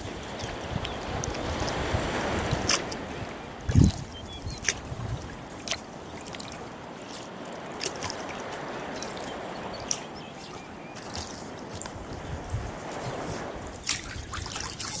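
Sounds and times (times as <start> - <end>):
small splashes: 0.0 - 15.0
water dripping from oars: 0.0 - 15.0.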